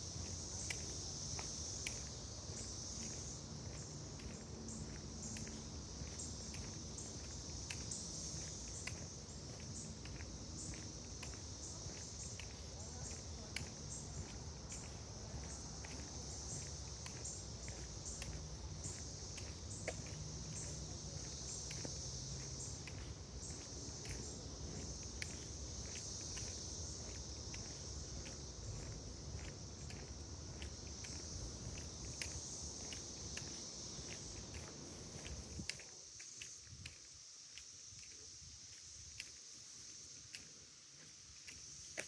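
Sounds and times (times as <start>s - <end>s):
footsteps on trail: 0.0s - 42.0s
insects chorus: 0.0s - 42.0s.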